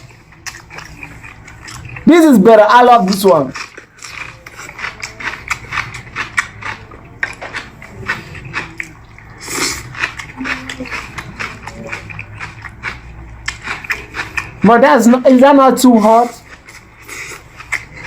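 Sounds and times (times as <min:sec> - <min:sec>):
person chewing and biting food: 0:00.0 - 0:02.1, 0:03.0 - 0:14.6, 0:16.4 - 0:18.0.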